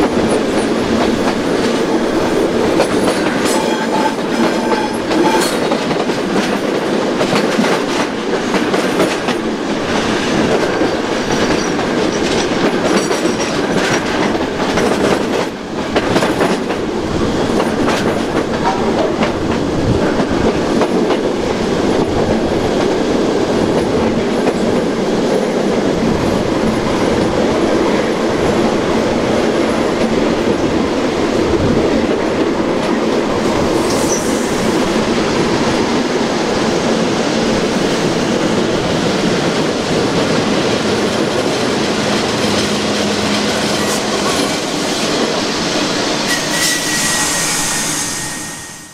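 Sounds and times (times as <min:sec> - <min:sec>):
electric train rumble: 0:00.0 - 0:48.9.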